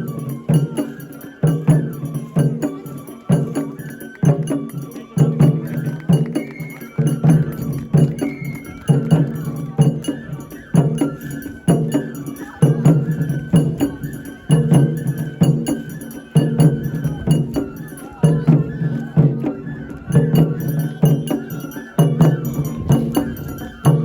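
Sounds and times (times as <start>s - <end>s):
heavy drum beats: 0.0s - 24.0s
high bamboo flute: 0.0s - 24.0s.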